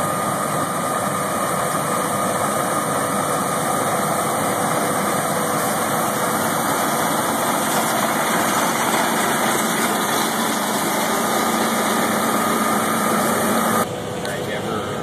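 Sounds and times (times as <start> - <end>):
combine harvester drone: 0.0 - 15.0
faint steady whine: 0.0 - 15.0.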